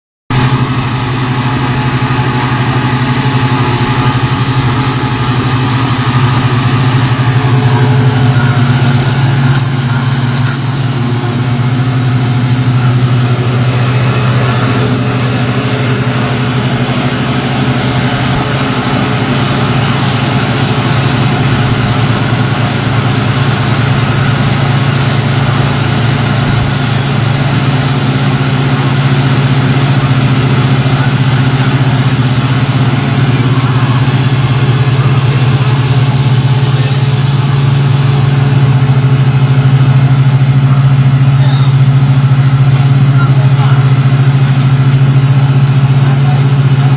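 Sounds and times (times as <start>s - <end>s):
diesel engine droning: 0.3s - 46.9s.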